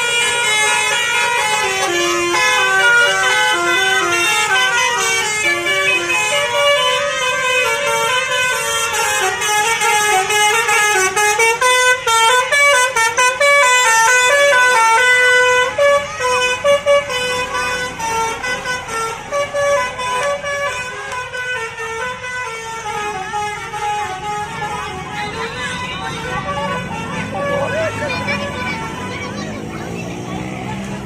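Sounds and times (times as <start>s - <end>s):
multi-tone bus horn melody: 0.0s - 31.0s.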